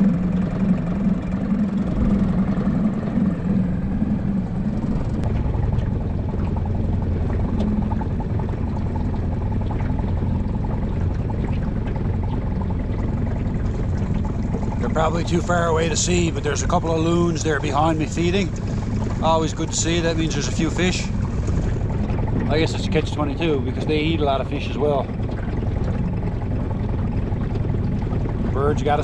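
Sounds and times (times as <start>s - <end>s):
outboard motor running: 0.0s - 29.0s
water around hull: 0.0s - 29.0s.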